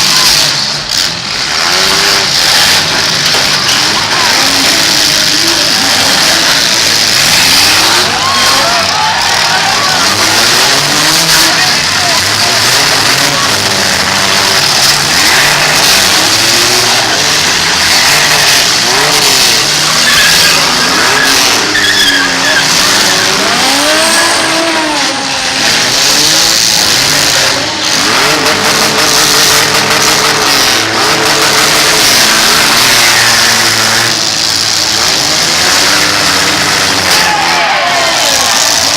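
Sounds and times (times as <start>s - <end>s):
car engines revving: 0.0s - 38.9s
loud steady din: 0.0s - 38.9s.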